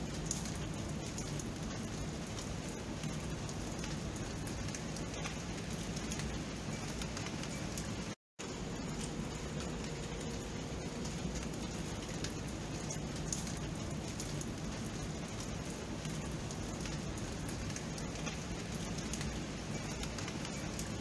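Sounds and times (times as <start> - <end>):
rain drops pattering: 0.0 - 21.0.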